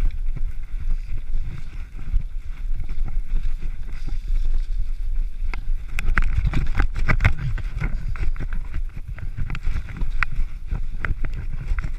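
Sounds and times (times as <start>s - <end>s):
bike clicks and rattles: 0.0s - 11.9s
wind rumble on microphone: 0.0s - 11.9s.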